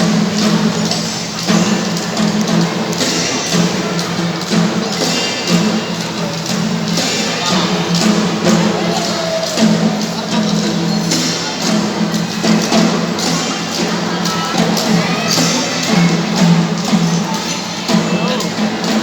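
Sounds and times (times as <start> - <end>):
drums and percussion beating: 0.0 - 19.0.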